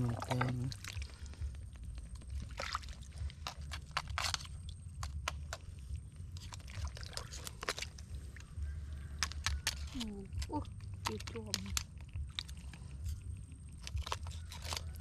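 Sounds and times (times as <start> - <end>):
steady low rumble: 0.0 - 15.0
wet mud squelching: 0.0 - 15.0.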